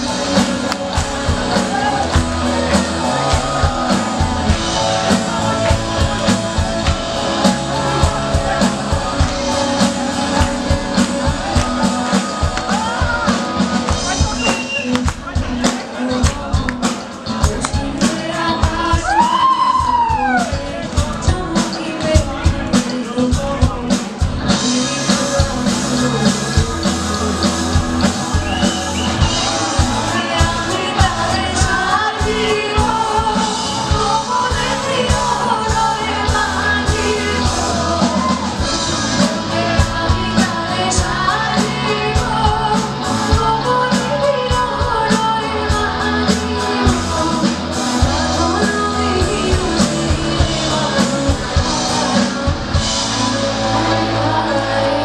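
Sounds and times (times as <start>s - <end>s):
drum kit: 0.0s - 55.0s
electric guitar: 0.0s - 55.0s
live rock band: 0.0s - 55.0s
woman singing: 0.0s - 55.0s.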